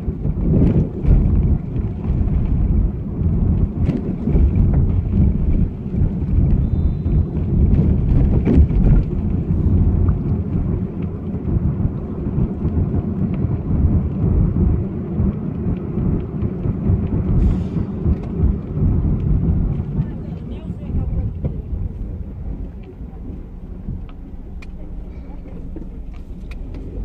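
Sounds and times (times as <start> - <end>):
road and wind noise rumble: 0.0 - 27.0.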